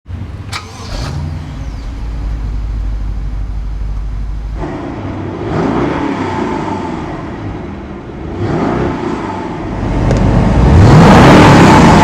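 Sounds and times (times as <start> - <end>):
car engine rumbling and revving: 0.1 - 12.0.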